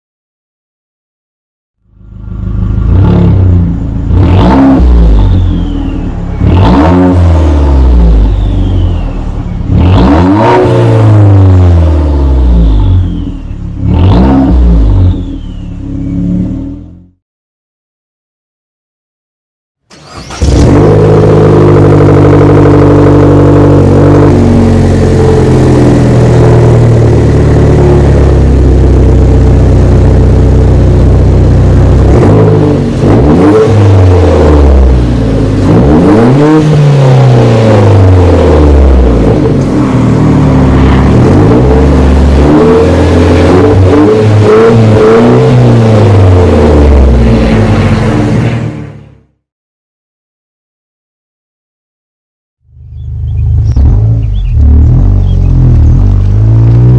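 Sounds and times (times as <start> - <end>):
car engine revving: 1.9 - 17.1, 19.9 - 49.4, 52.9 - 56.9.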